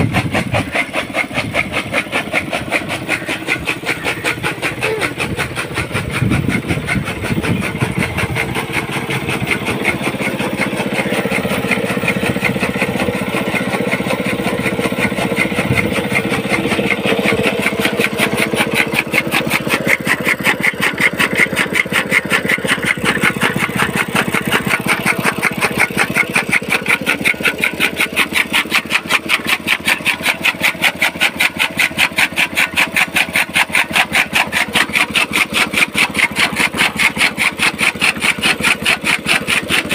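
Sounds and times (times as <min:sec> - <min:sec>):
chaff cutter chopping stalks: 0:00.0 - 0:39.9
small petrol engine running: 0:00.0 - 0:39.9.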